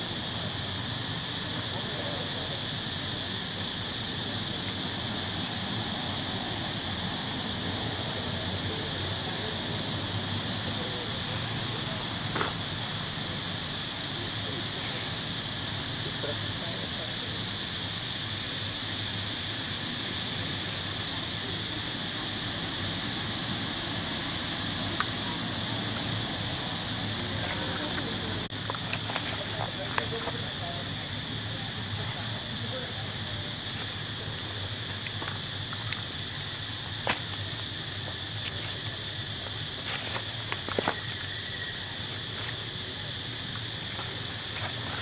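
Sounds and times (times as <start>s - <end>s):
high-pitched insect drone: 0.0s - 45.0s.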